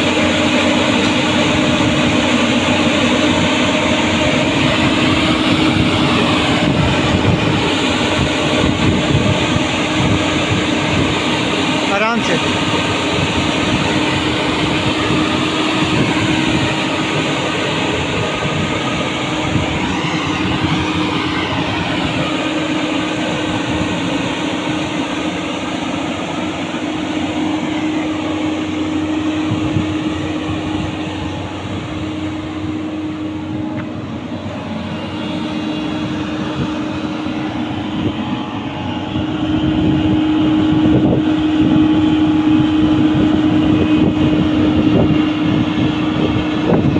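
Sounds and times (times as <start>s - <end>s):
excavator diesel engine drone: 0.0s - 46.9s
hydraulics: 0.0s - 46.9s
steel tracks grinding: 0.0s - 46.9s.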